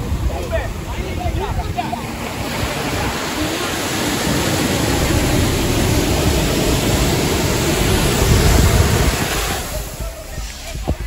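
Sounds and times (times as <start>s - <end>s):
sea waves breaking on beach: 0.0s - 10.2s
wind buffeting microphone: 0.0s - 11.0s.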